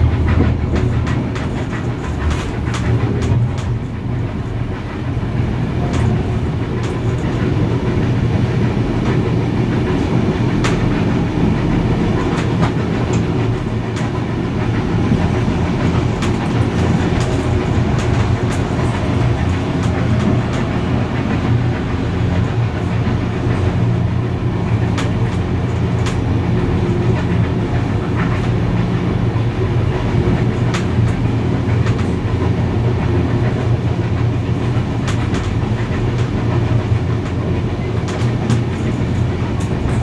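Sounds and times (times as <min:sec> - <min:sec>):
train rumbling along rails: 0:00.0 - 0:40.0
wheels clicking over track: 0:00.0 - 0:40.0.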